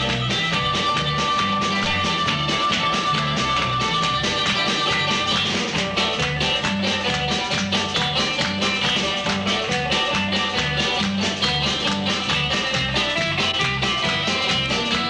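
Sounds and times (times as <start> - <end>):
harmonica: 0.0 - 15.0
picked guitars: 0.0 - 15.0
repeating bass line: 0.0 - 15.0.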